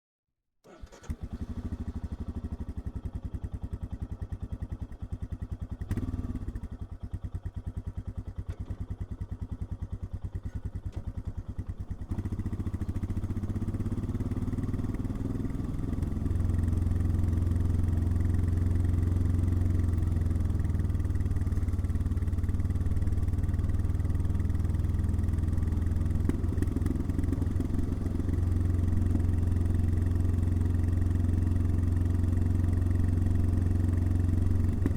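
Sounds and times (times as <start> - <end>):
motorcycle riding off: 0.7 - 4.8, 5.7 - 7.6, 8.4 - 34.9
motorcycle engine idling: 0.9 - 34.9.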